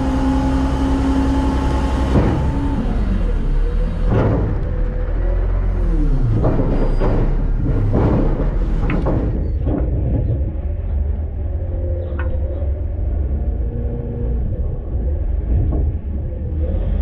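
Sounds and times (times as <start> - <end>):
garbage truck rumbling: 0.0 - 17.0.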